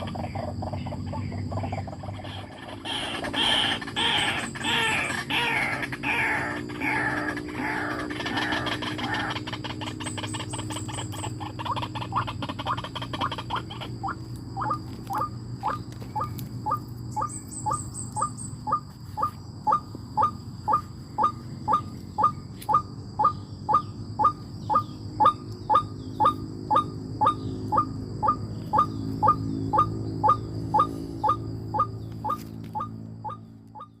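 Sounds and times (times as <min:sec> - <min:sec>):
bird chirping: 0:00.0 - 0:34.0
steady low hum: 0:00.0 - 0:34.0.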